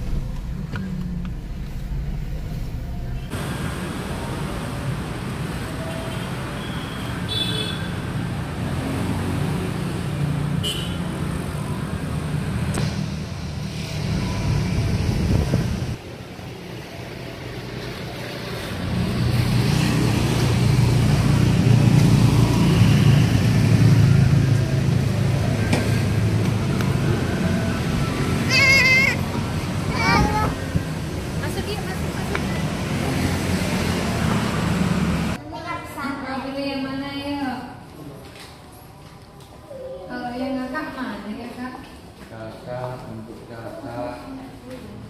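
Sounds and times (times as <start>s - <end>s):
street traffic rumble: 0.0s - 45.0s.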